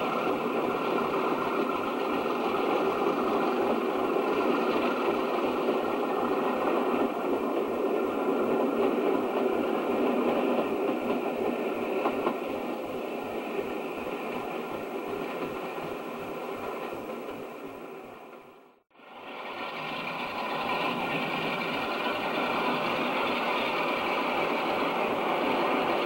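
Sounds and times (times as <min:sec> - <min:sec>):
diesel locomotive rumbling past: 0:00.0 - 0:26.0.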